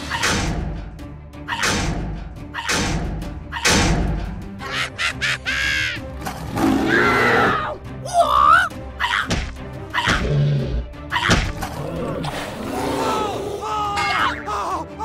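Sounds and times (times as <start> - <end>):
cartoon background music: 0.0 - 15.0.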